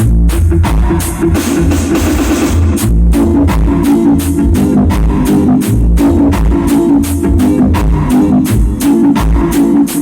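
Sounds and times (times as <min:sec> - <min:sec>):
loud music with deep bass: 0:00.0 - 0:10.0.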